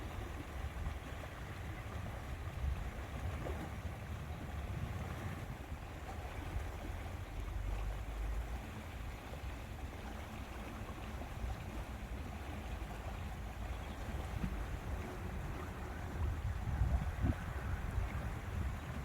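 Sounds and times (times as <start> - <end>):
wind rumbling on microphone: 0.0 - 8.0, 11.5 - 19.0
lake water washing: 0.0 - 19.0.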